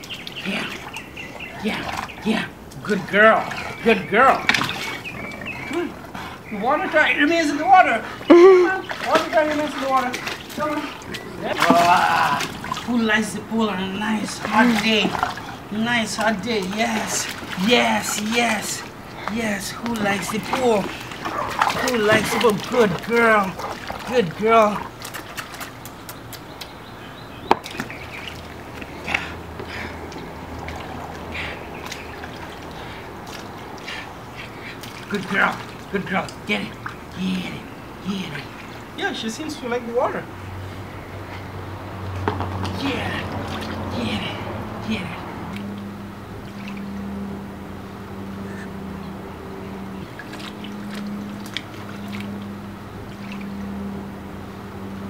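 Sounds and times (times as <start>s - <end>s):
steady low hum: 0.0s - 55.0s
water sloshing and splashing: 0.0s - 55.0s.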